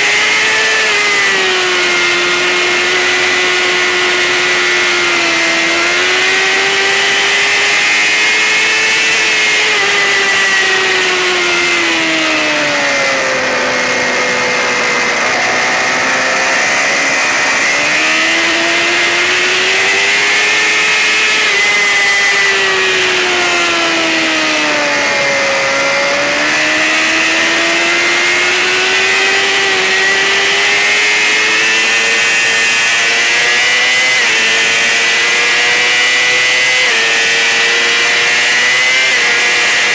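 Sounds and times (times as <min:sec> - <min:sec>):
sportbike engine at high revs: 0:00.0 - 0:39.9.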